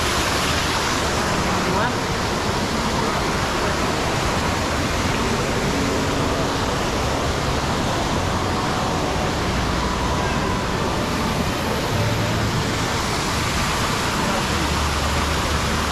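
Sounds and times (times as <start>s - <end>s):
water rushing in pool: 0.0s - 15.9s.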